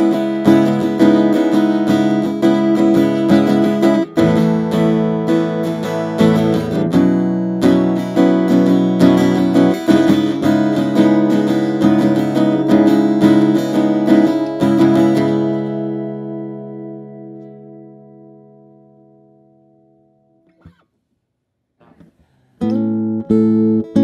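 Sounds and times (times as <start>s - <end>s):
acoustic guitar strummed chords: 0.0s - 20.8s, 22.6s - 24.0s.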